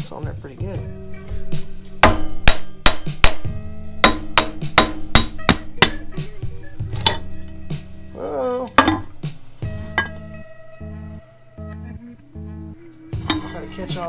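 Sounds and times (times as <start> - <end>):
background guitar music: 0.0 - 14.0.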